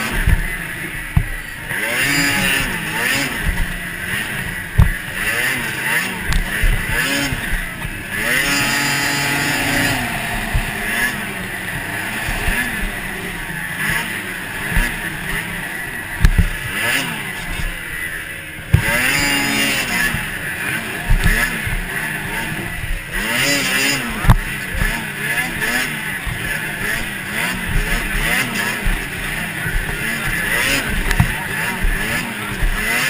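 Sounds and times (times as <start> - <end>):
sharp thumps: 0.0 - 20.4, 21.0 - 33.0
snowmobile engine revving: 0.0 - 33.0.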